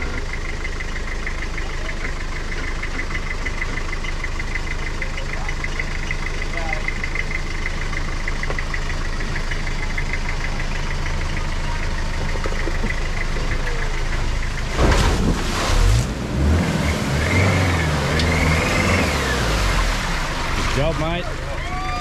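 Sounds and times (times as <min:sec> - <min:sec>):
vehicle engine idling and revving: 0:00.0 - 0:22.0.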